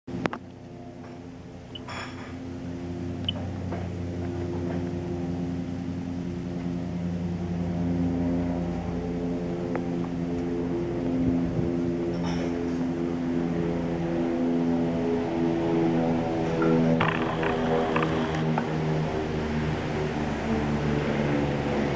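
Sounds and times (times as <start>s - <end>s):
helicopter engine and rotor drone: 0.1s - 21.9s.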